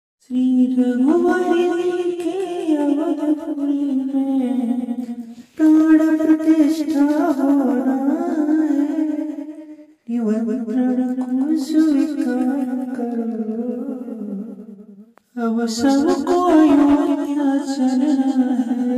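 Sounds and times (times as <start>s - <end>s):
person singing devotional song: 0.2s - 18.9s.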